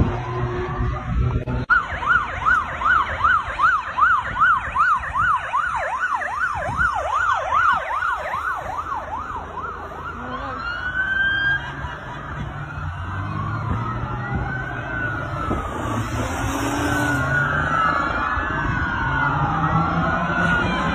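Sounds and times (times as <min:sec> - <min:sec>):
road traffic: 0:00.0 - 0:20.9
siren yelping and wailing: 0:00.0 - 0:20.9.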